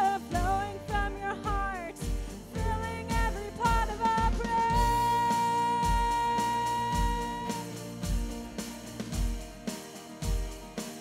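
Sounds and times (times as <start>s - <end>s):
drum kit steady beat: 0.0s - 11.0s
worship band playing: 0.0s - 11.0s.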